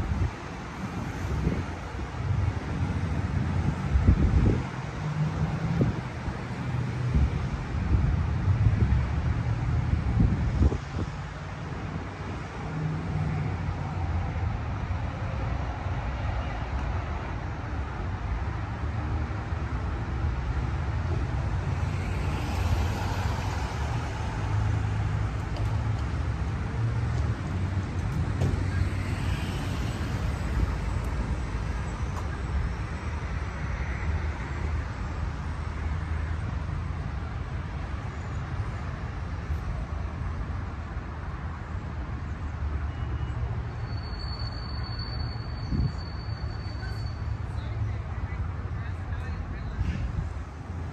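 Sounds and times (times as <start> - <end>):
vehicles passing: 0.0 - 43.9, 44.8 - 50.9
road traffic rumble: 0.0 - 50.9.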